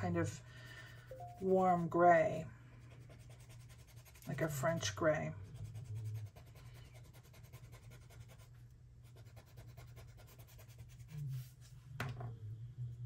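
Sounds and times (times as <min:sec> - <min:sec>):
colored pencil scratching on paper: 0:00.0 - 0:11.7.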